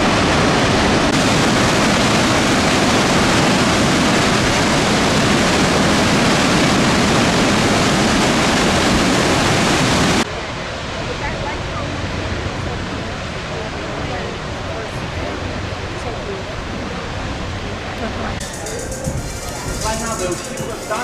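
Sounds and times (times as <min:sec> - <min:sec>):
waterfall rushing: 0:00.0 - 0:17.5, 0:18.1 - 0:21.0.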